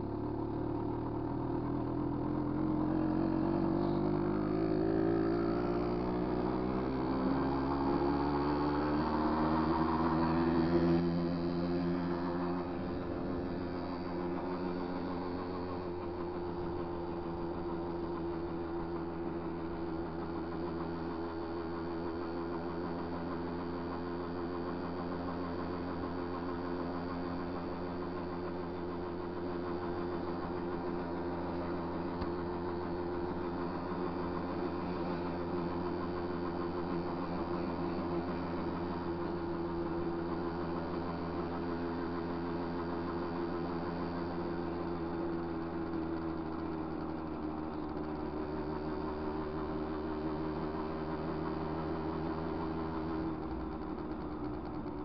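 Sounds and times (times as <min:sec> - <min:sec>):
small motorbike engine running: 0:00.0 - 0:55.0.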